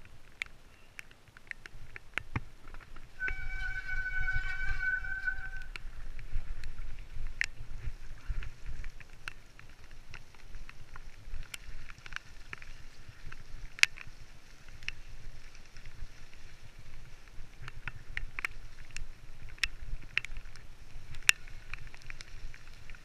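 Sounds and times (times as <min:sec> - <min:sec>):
bike clicks and rattles: 0:00.0 - 0:23.0.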